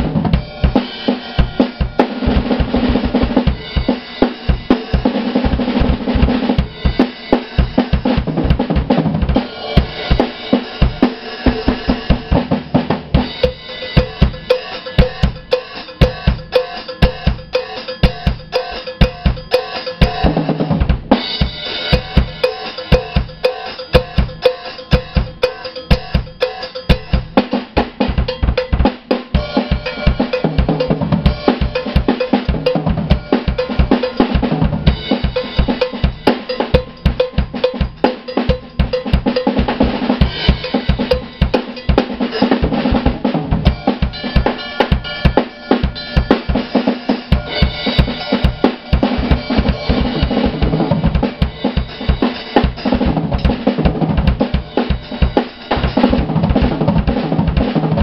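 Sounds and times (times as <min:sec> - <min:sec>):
bass drum and snare strokes: 0:00.0 - 0:58.0.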